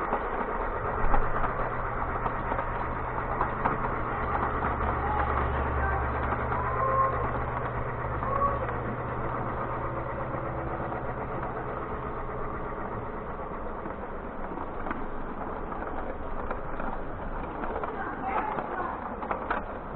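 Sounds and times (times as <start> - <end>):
toy train motor hum: 0.0 - 19.9
toy train wheel rumble: 0.0 - 19.9.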